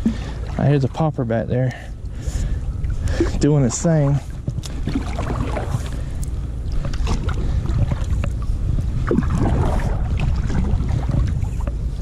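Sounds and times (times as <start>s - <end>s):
wind buffeting microphone: 2.0s - 12.0s.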